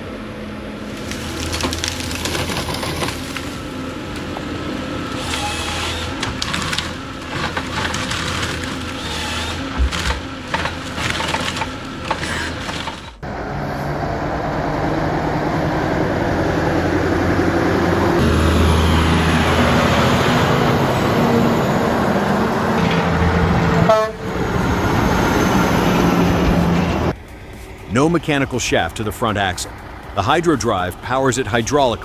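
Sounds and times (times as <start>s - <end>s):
machinery engine under load: 0.0s - 32.0s.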